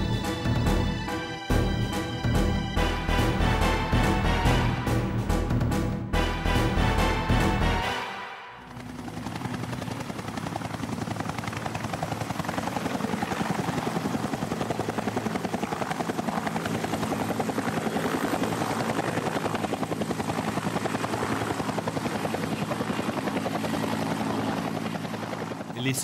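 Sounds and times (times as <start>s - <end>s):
helicopter rotor blades beating: 0.0s - 26.0s.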